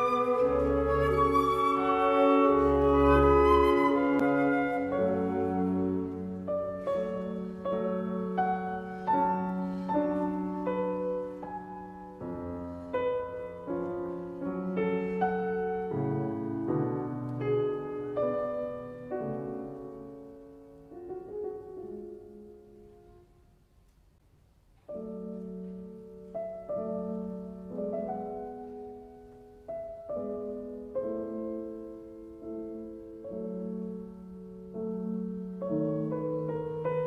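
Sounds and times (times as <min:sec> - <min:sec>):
slow piano music: 0:00.0 - 0:37.0.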